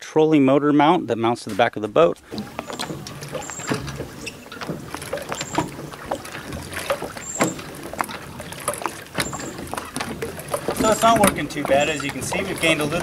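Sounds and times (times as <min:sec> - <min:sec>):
water splashing: 0:01.2 - 0:13.0
knocks and rattles: 0:01.5 - 0:13.0.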